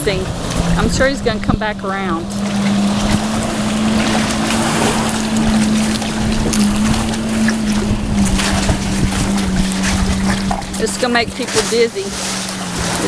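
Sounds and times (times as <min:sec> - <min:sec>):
water noise: 0:00.0 - 0:13.0
watercraft engine running: 0:00.0 - 0:13.0
wind buffeting microphone: 0:00.0 - 0:13.0.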